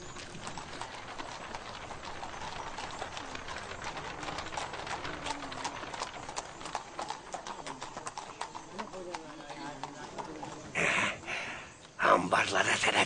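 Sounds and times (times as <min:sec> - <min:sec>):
horse hooves clip-clopping: 0:00.0 - 0:12.0.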